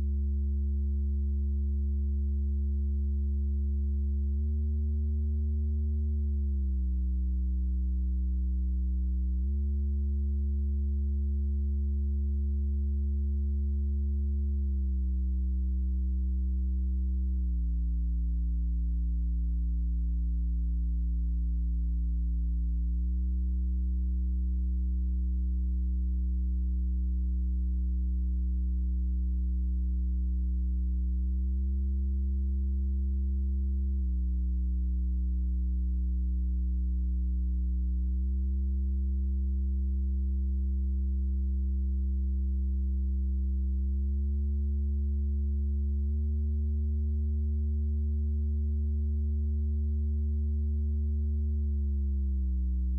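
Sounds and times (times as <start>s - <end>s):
synth oscillator droning low tone: 0.0s - 52.9s.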